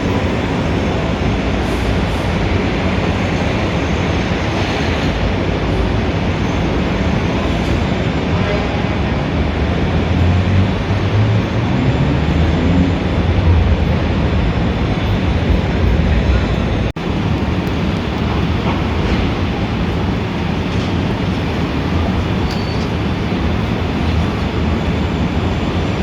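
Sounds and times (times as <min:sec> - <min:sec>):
city traffic roar: 0:00.0 - 0:26.0.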